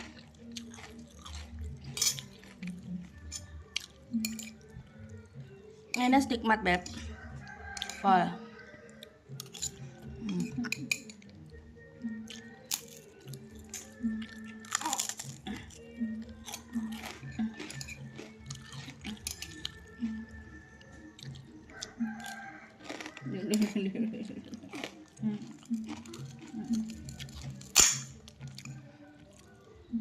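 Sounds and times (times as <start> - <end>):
chewing and crunching food: 0.0 - 6.1, 6.7 - 30.0.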